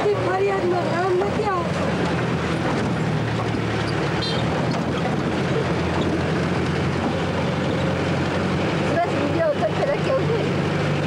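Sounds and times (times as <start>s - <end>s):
vehicle engine and road hum: 0.0s - 11.0s.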